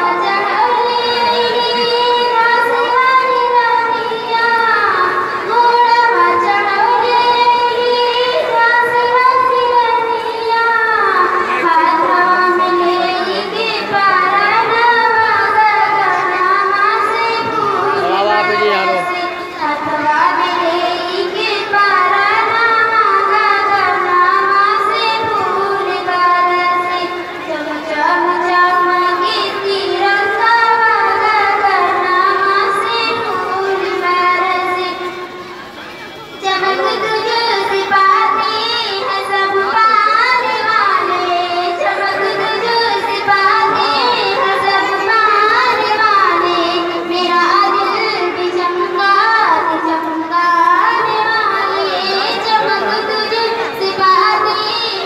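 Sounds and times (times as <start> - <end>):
girl singing into a microphone: 0.0 - 55.0.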